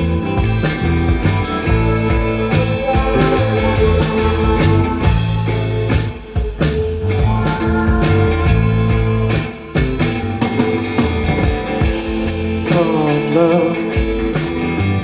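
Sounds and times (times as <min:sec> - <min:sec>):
drum and cymbal hits: 0:00.0 - 0:15.0
live rock band playing: 0:00.0 - 0:15.0.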